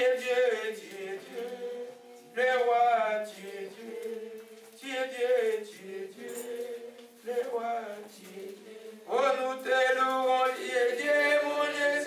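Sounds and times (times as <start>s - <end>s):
man singing a worship chant: 0.0s - 12.0s.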